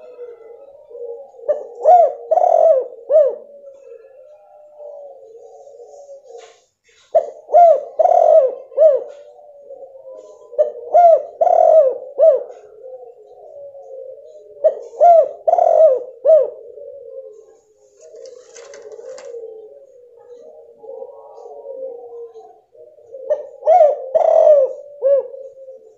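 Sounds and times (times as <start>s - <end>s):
dove cooing: 0.0s - 25.9s.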